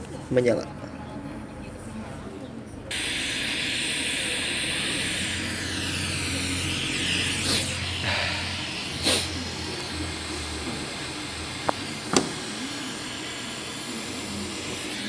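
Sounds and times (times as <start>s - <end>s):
tv speaker static hiss: 2.9s - 15.0s.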